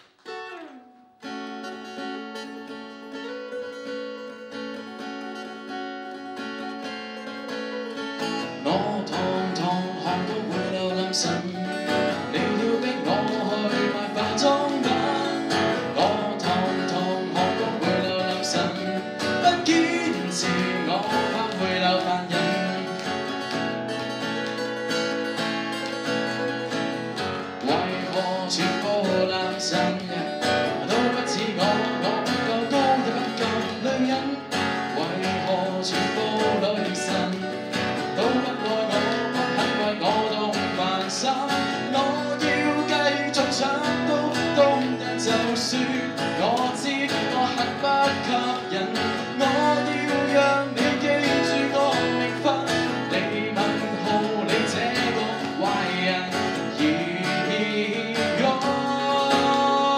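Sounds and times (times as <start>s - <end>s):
strummed acoustic guitar: 0.0s - 59.9s
man singing pop song: 7.2s - 59.9s.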